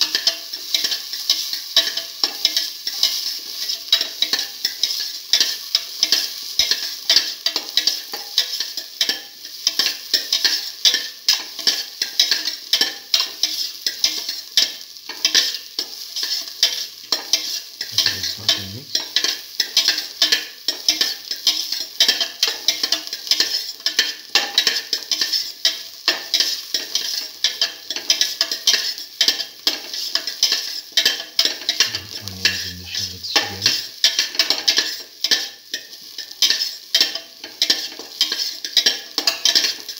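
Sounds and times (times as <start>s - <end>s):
onions sizzling in hot oil: 0.0s - 32.6s, 33.3s - 39.9s.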